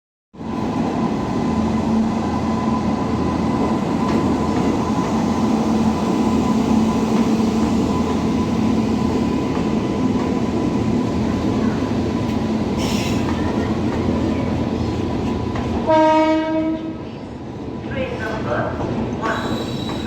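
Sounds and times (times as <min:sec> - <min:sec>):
train rumbling: 0:00.4 - 0:20.0.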